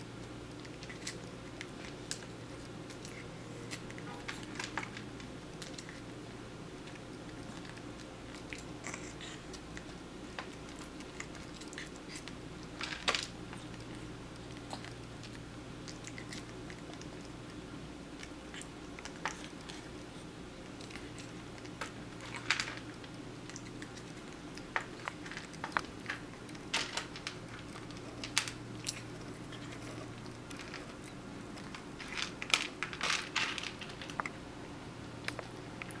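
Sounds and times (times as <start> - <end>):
cat chewing and crunching food: 0.0 - 36.0
low room hum: 0.0 - 36.0.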